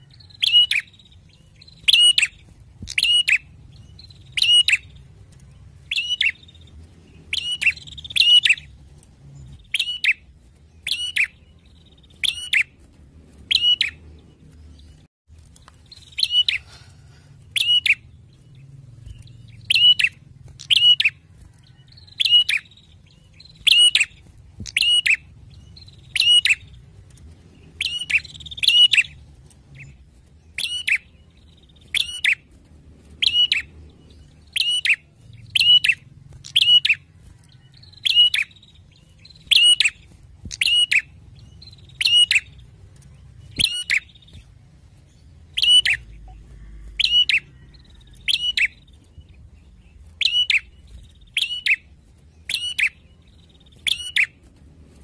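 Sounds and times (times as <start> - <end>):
bird singing sharp ringing calls: 0.0 - 8.7, 9.6 - 12.8, 13.5 - 14.0, 15.9 - 16.6, 17.6 - 26.8, 27.7 - 29.2, 29.8 - 32.4, 33.2 - 37.0, 37.7 - 44.4, 45.2 - 49.3, 50.2 - 54.4.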